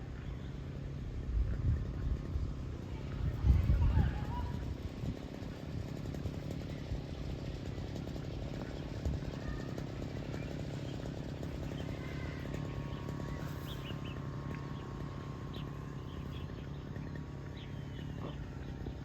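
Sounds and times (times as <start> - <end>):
steady low hum and rumble: 0.0 - 19.0.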